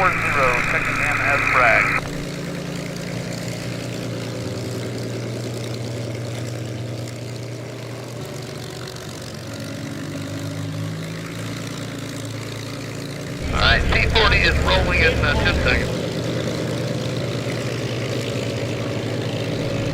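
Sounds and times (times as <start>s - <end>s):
propeller plane engine drone: 0.0s - 19.9s.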